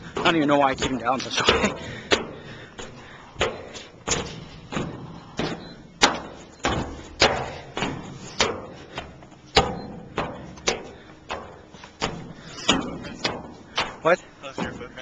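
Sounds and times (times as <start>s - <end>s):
footsteps walking: 0.0s - 13.8s.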